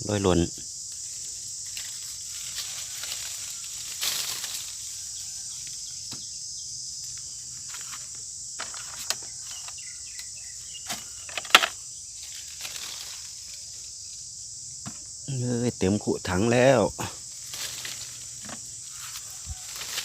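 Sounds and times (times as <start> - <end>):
high-pitched insect drone: 0.0 - 20.0
rustles: 0.6 - 15.2, 17.0 - 20.0.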